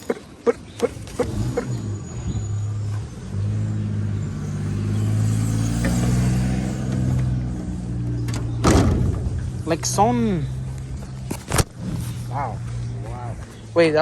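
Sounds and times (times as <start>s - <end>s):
car engine running: 0.7s - 13.7s.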